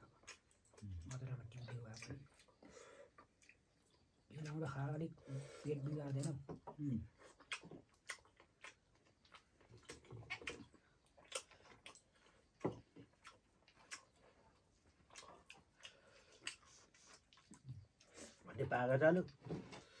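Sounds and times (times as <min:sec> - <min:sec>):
lip smacks and chewing: 0:00.0 - 0:04.6, 0:06.2 - 0:18.4.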